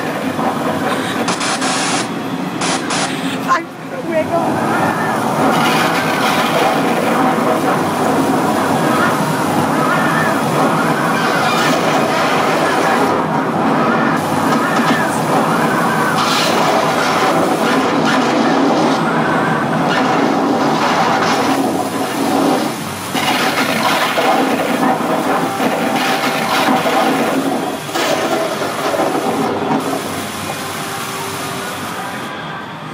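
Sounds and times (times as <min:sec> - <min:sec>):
fans blowing strong wind: 0:00.0 - 0:32.9.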